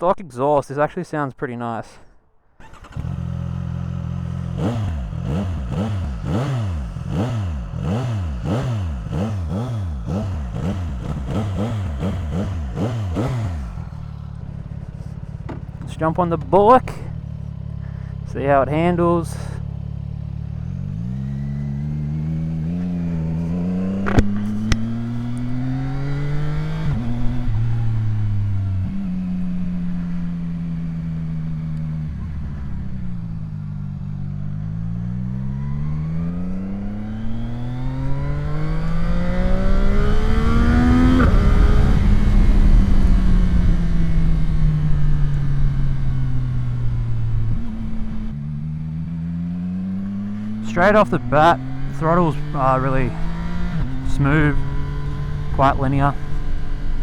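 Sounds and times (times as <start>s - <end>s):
motorcycle engine accelerating: 2.6s - 57.0s.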